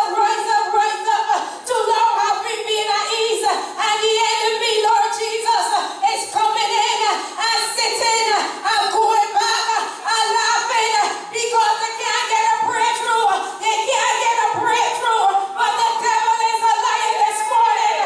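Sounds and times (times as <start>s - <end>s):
choir singing a church song: 0.0s - 18.0s.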